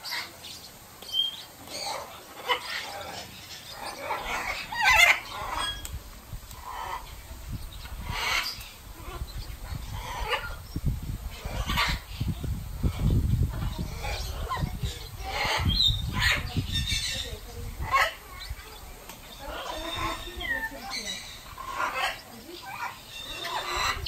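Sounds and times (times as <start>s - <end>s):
parrots squawking: 1.1s - 5.9s, 6.5s - 7.2s, 7.9s - 10.7s, 11.3s - 24.0s.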